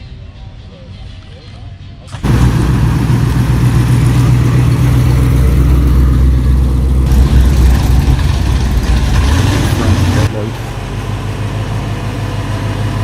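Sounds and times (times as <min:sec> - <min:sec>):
car engine idling: 0:02.1 - 0:13.0.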